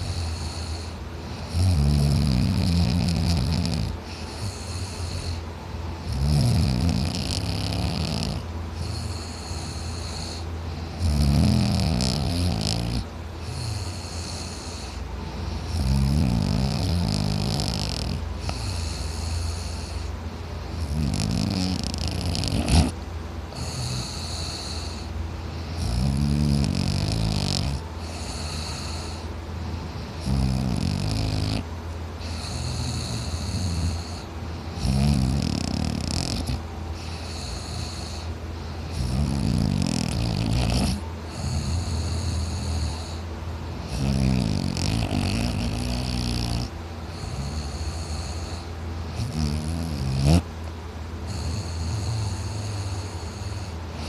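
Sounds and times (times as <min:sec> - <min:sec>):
man snoring loudly: 0:00.0 - 0:05.4, 0:06.0 - 0:15.0, 0:15.6 - 0:20.1, 0:20.7 - 0:25.1, 0:25.8 - 0:29.3, 0:30.0 - 0:38.3, 0:38.9 - 0:43.2, 0:43.8 - 0:50.5, 0:51.3 - 0:54.0
steady low hum: 0:00.0 - 0:54.0.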